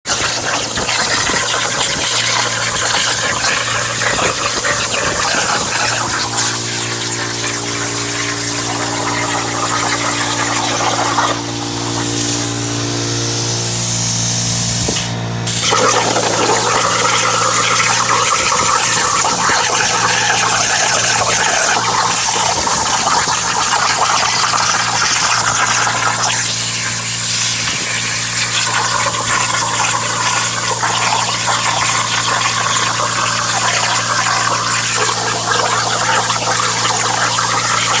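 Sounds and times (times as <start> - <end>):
plasma torch hissing: 0.1 - 38.0.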